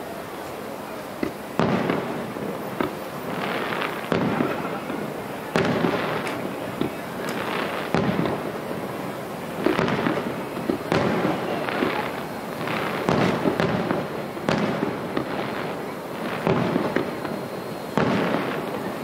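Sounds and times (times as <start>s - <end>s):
firework shells bursting with echo: 1.2s - 19.0s.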